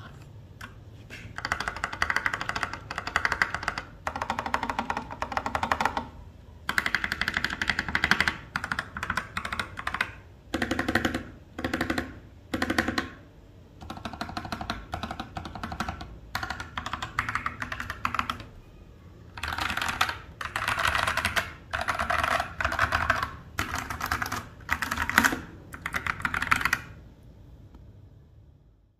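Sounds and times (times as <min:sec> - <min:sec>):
fast mechanical keyboard typing: 0:01.3 - 0:13.2, 0:13.8 - 0:18.6, 0:19.3 - 0:27.0.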